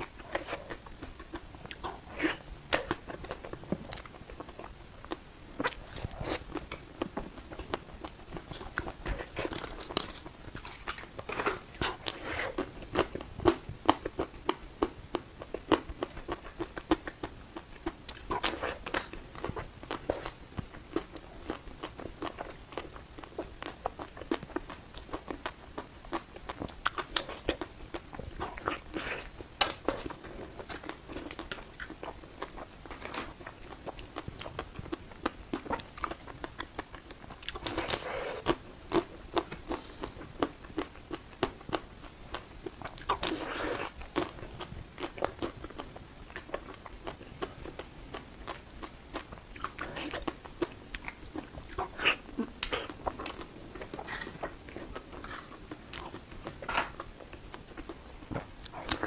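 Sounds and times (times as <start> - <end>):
chewing crispy ice cream: 0.0 - 59.0.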